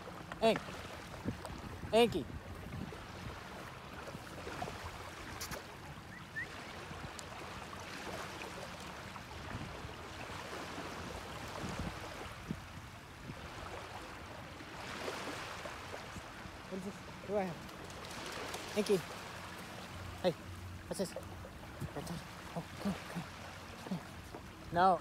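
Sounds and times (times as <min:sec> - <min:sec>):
small waves lapping on beach: 0:00.0 - 0:25.0.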